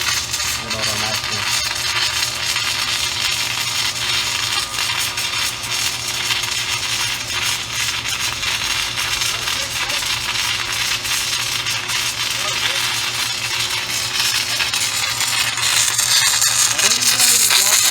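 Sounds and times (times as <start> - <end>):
welding arc crackling hiss: 0.0 - 17.9.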